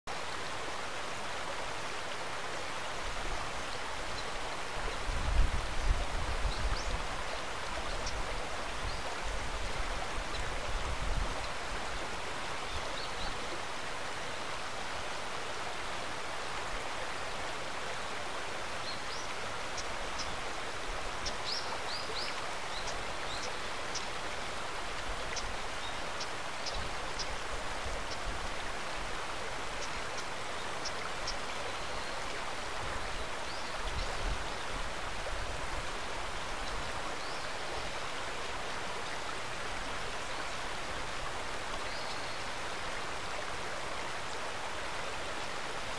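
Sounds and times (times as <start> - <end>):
stream rushing: 0.1 - 45.9.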